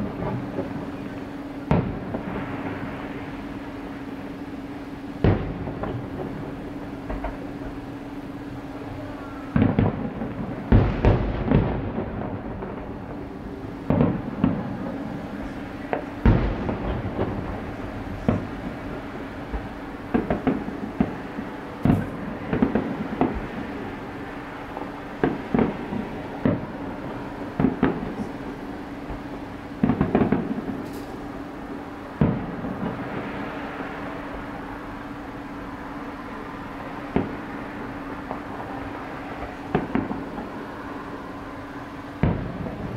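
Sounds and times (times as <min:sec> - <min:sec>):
distant fireworks bursting: 0:00.0 - 0:42.9.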